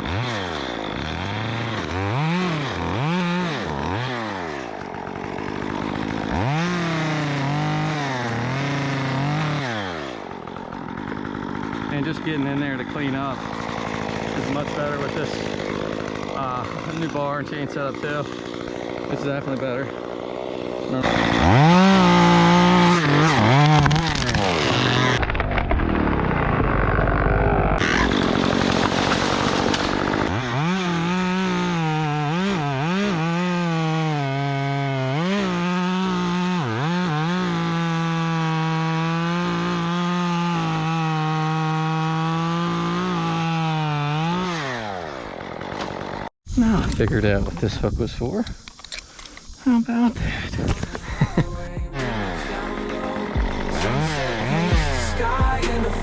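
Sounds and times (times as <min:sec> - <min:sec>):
chainsaw cutting wood: 0:00.0 - 0:46.4, 0:50.1 - 0:56.0.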